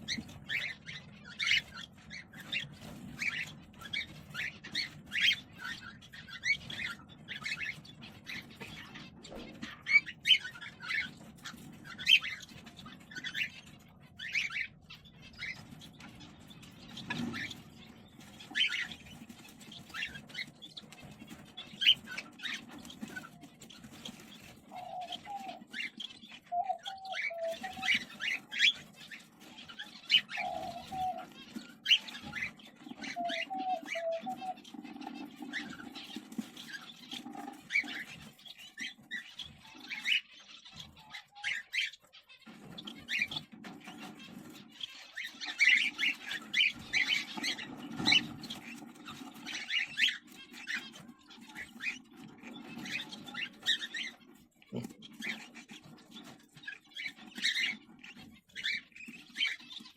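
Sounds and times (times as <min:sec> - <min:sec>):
birds chirping scratchy calls: 0:00.0 - 0:59.9
low repeated bird notes: 0:00.0 - 0:59.9.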